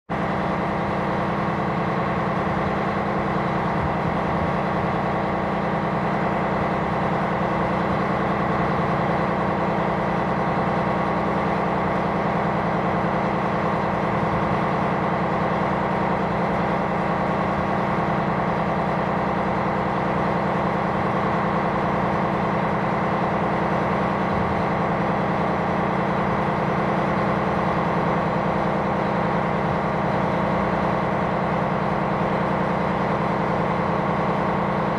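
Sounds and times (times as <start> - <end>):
diesel engine drone: 0.1 - 34.9.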